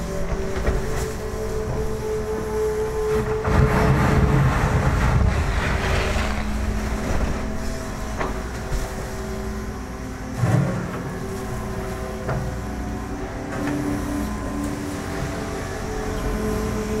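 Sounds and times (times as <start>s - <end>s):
excavator diesel engine working: 0.0s - 17.0s.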